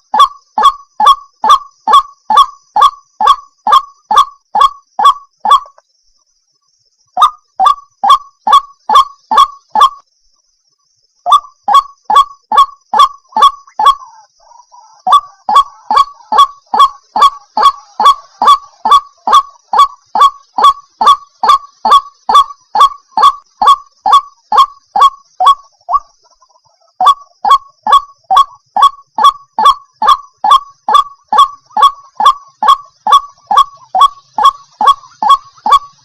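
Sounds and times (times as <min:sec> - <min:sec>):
waterhen honking call: 0:00.0 - 0:05.7, 0:11.3 - 0:26.4, 0:27.0 - 0:36.0.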